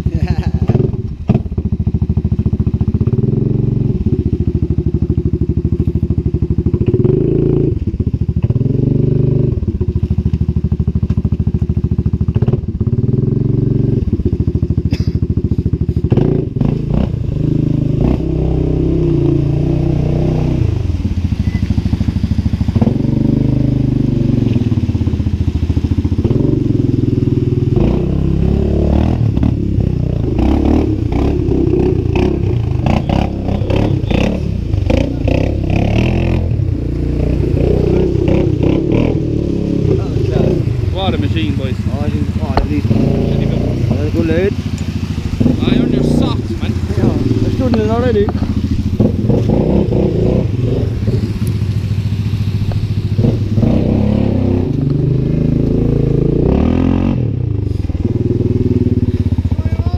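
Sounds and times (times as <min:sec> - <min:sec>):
atv engine running: 0:00.0 - 0:59.9
water splashing around wheels: 0:00.0 - 0:59.9.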